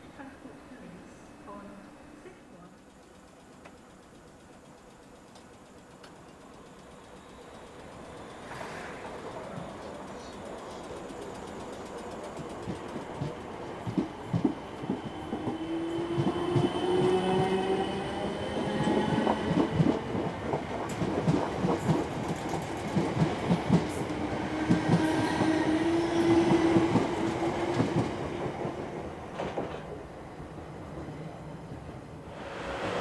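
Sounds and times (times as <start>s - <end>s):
train whine: 0.0s - 33.0s
train wheels clacking over rails: 2.8s - 30.2s.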